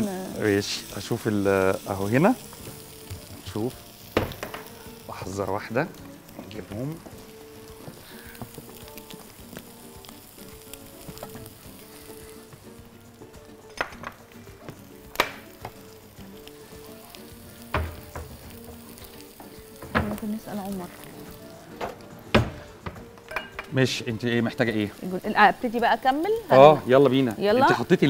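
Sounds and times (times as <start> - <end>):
meat and onions sizzling in pan: 0.0 - 28.0.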